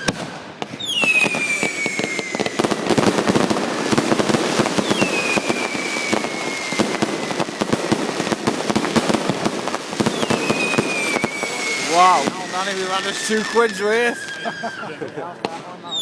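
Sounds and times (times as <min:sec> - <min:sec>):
descending firework whistles: 0:00.0 - 0:08.0, 0:10.0 - 0:16.0
fireworks crackling and popping: 0:00.0 - 0:16.0.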